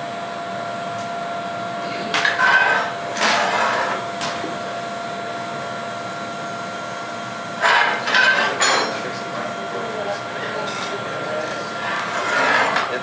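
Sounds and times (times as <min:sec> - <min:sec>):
faint steady whine: 0:00.0 - 0:13.0
furnace roaring: 0:00.0 - 0:13.0.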